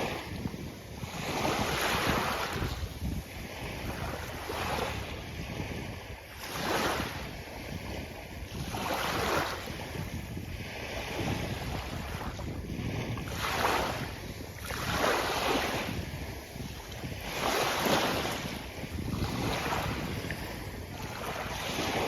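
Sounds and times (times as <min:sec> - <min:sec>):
sea waves breaking on a beach: 0:00.0 - 0:22.0.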